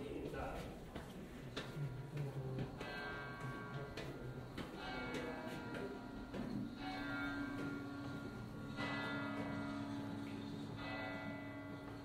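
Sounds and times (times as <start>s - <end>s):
church bell tolling: 1.9s - 12.0s.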